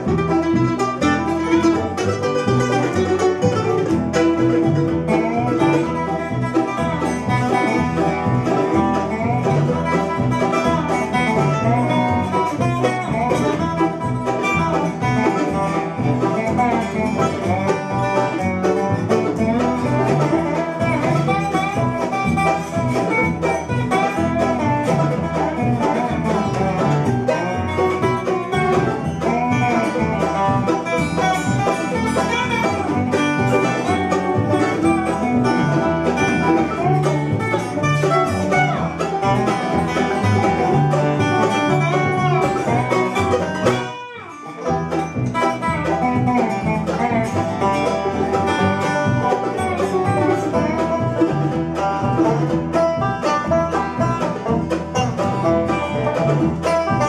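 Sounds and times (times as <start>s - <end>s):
acoustic guitar: 0.0s - 57.0s
banjo: 0.0s - 57.0s
mandolin: 0.0s - 57.0s
resonator guitar: 0.0s - 57.0s
upright bass: 0.0s - 57.0s.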